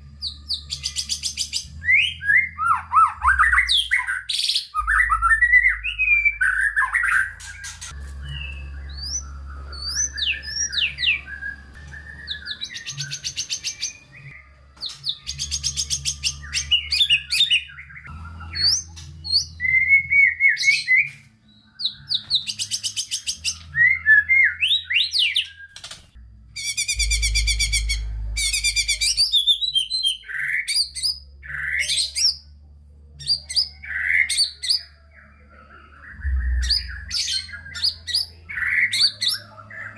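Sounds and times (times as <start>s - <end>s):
bird singing whistled song: 0.2s - 25.9s, 26.6s - 32.4s, 33.2s - 39.9s.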